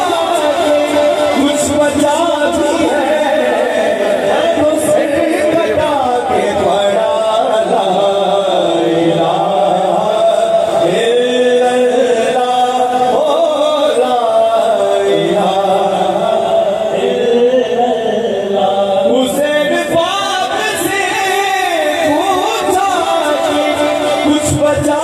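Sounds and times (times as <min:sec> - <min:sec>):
men singing together: 0:00.0 - 0:25.0.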